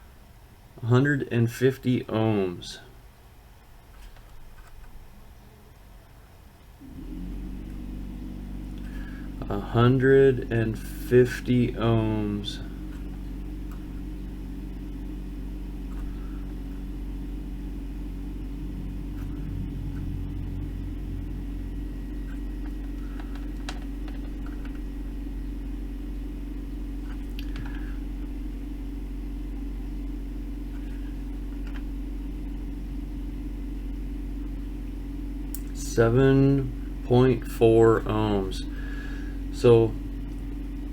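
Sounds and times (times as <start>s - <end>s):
low equipment hum: 0.0s - 40.9s.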